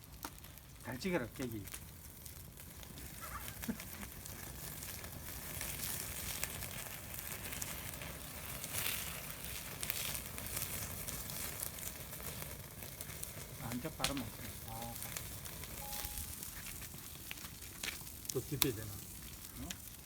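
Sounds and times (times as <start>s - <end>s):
meat sizzling on a grill: 0.0s - 20.0s
wood fire crackling: 0.0s - 20.0s.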